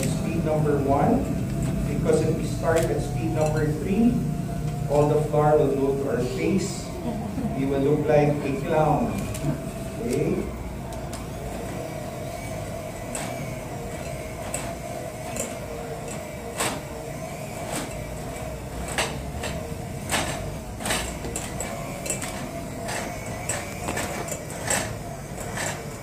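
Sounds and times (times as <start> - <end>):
electric hand mixer whining: 0.0 - 26.0.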